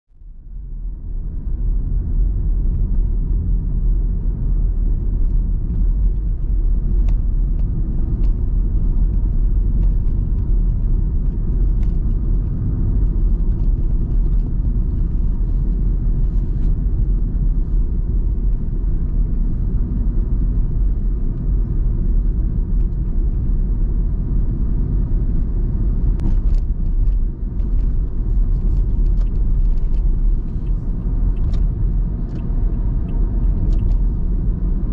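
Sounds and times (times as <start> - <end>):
car cabin rumble: 0.1 - 34.9.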